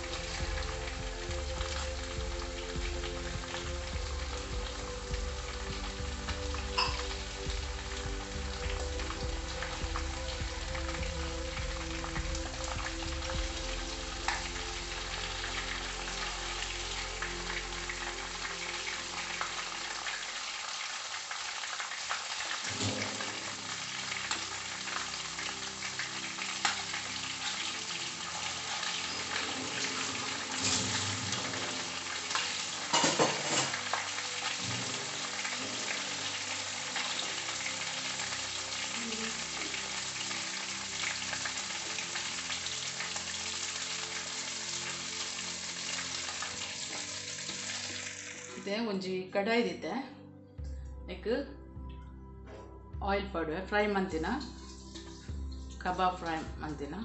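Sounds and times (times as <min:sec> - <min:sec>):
chicken sizzling in oil: 0:00.0 - 0:48.6, 0:54.4 - 0:56.4.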